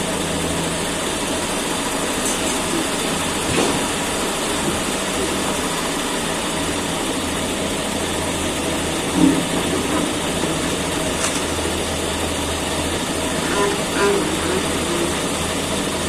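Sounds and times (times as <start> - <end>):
diesel excavator engine running: 0.0 - 16.0.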